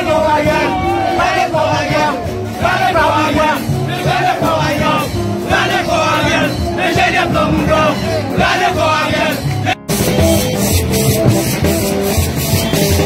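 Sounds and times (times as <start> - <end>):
crowd singing and chanting: 0.0 - 13.0
music: 0.0 - 13.0.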